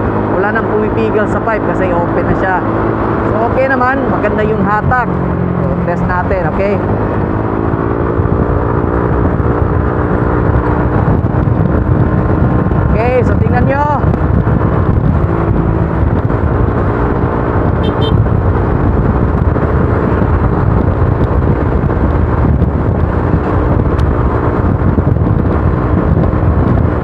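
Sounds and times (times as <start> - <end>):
scooter engine at speed: 0.0 - 27.0
wind rush on microphone: 0.0 - 27.0.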